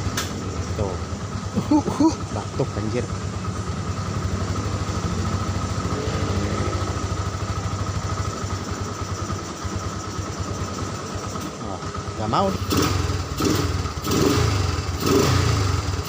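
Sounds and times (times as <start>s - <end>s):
motorcycle engine idling unevenly: 0.0s - 16.0s.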